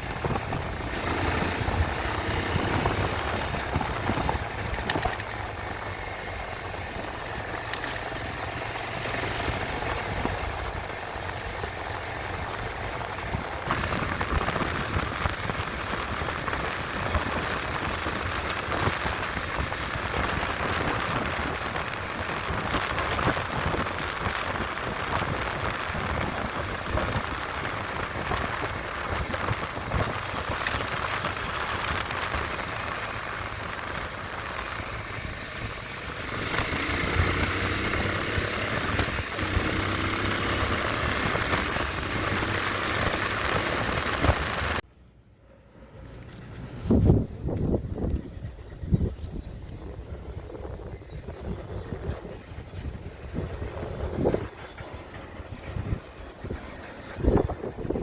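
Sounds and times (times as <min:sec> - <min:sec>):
rushing wind: 0:00.0 - 0:44.9, 0:45.9 - 0:58.0
motorcycle engine running: 0:00.0 - 0:58.0.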